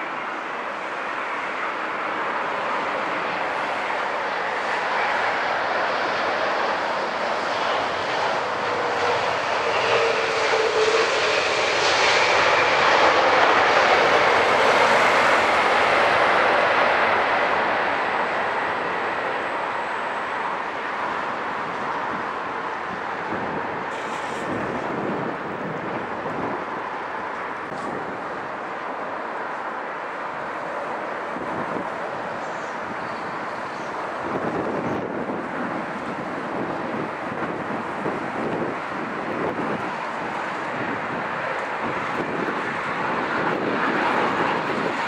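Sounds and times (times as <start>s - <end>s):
jet engines of an airliner: 0.0s - 45.0s.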